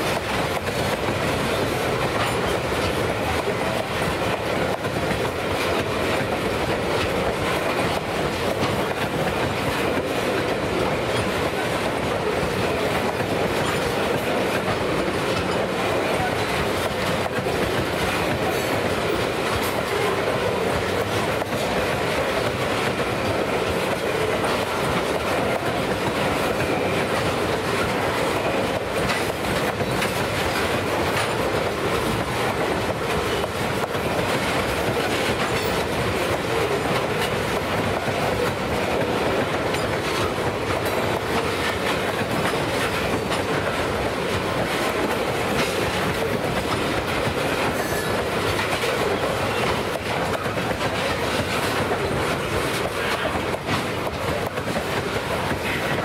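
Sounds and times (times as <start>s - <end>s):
freight train cars rolling: 0.0s - 56.0s
wheels clicking over track: 0.0s - 56.0s.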